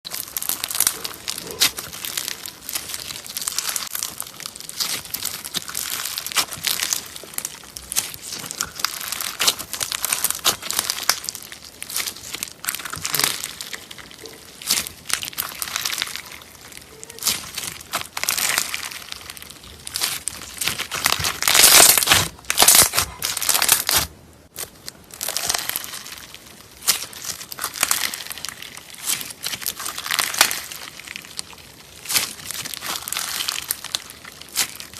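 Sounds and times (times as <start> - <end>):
slime squishing and crackling: 0.0 - 34.9.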